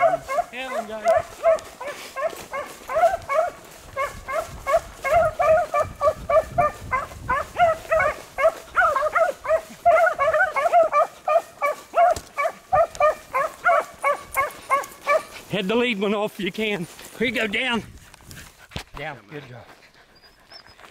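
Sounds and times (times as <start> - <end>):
dogs baying and barking: 0.0 - 15.8, 18.2 - 20.9.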